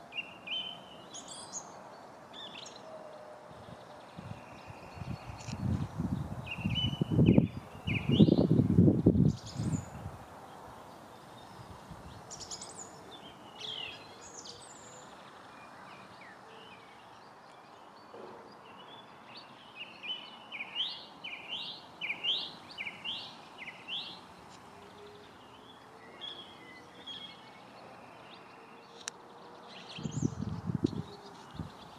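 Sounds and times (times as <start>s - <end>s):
songbirds chirping: 0.0s - 31.9s.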